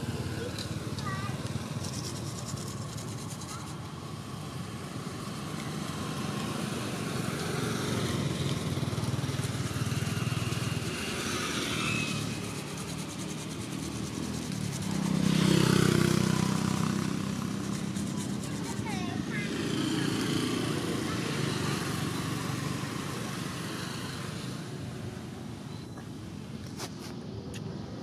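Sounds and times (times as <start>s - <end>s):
vehicle engines passing: 0.0s - 28.0s.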